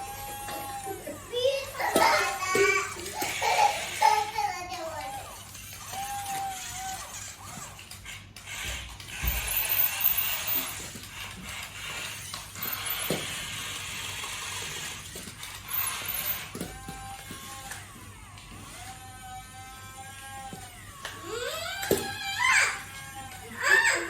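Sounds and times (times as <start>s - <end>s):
toy motors whirring and ratcheting: 0.0s - 24.0s.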